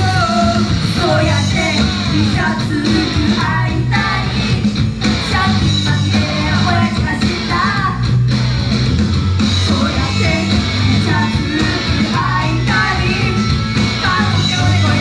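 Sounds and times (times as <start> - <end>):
live pop-rock song with vocals: 0.0 - 15.0.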